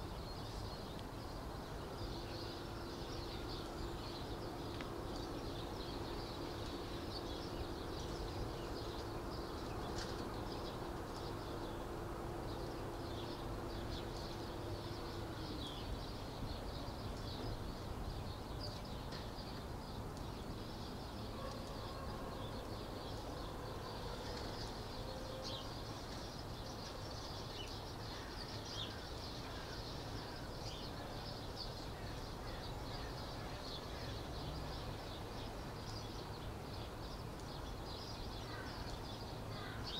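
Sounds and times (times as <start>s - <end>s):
outdoor background noise: 0.0s - 39.9s
small birds chirping: 0.0s - 39.9s.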